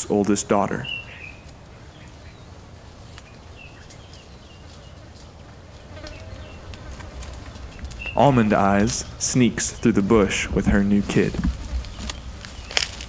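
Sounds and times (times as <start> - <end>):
insects buzzing: 1.0 - 13.0.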